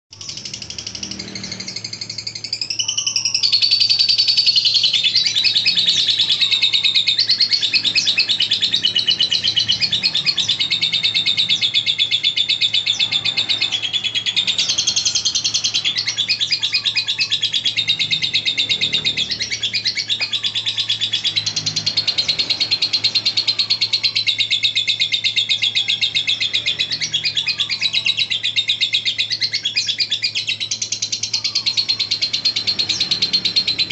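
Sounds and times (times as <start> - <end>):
bird chattering trill: 0.1 - 33.9.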